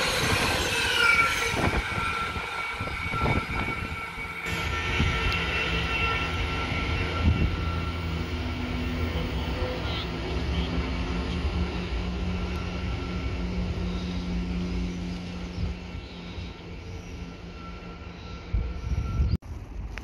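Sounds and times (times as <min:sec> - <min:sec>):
train running past: 0:00.0 - 0:20.0.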